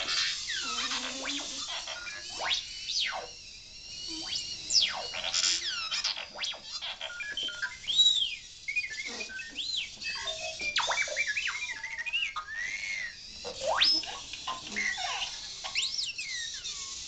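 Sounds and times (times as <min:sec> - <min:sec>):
electronic chirps and blips: 0:00.0 - 0:16.9
robot whistles and swoops: 0:00.0 - 0:17.0.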